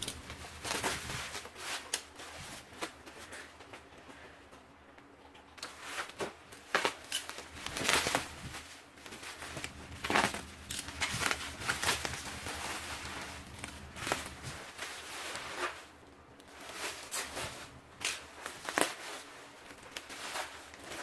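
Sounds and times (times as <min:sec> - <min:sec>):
bubble wrap and plastic crinkling: 0:00.0 - 0:03.9, 0:05.6 - 0:21.0.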